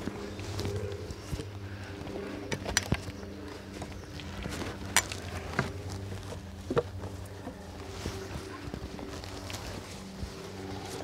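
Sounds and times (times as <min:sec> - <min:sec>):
footsteps on forest floor: 0:00.0 - 0:11.0.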